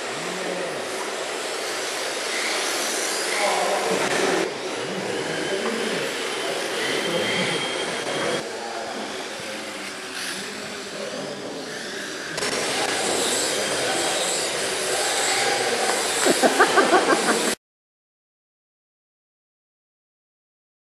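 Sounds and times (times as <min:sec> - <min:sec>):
toy motorcycle electric motors whining: 0:00.0 - 0:17.6.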